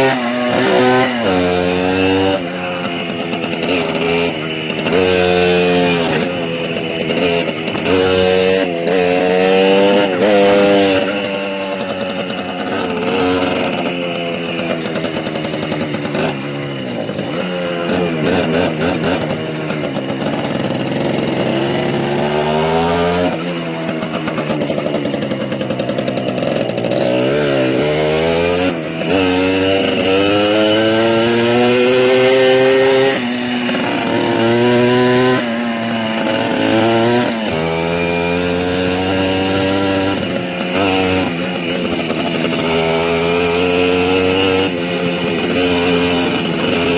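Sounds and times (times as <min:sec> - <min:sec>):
small motorcycle engine revving: 0:00.0 - 0:46.9.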